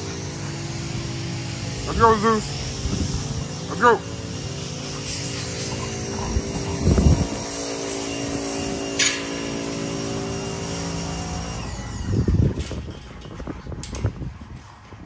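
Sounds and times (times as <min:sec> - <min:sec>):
motor humming: 0:00.0 - 0:14.7.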